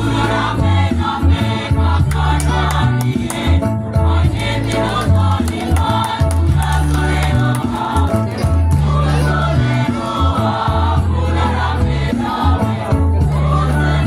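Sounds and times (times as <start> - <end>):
choir singing in parts: 0.0 - 14.0
deep bass notes: 0.0 - 14.0.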